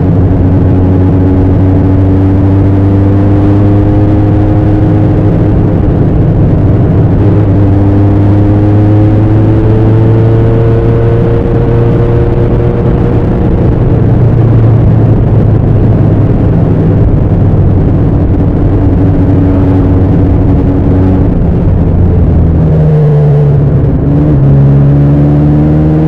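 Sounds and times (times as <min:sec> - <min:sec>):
motorcycle engine and exhaust: 0:00.0 - 0:26.0.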